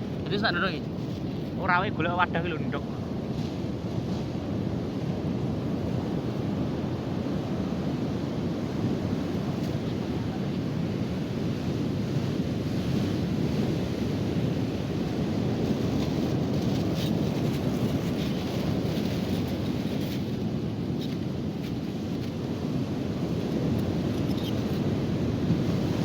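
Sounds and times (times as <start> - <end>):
wind buffeting microphone: 0.0 - 26.0
ocean surf breaking: 1.6 - 26.0.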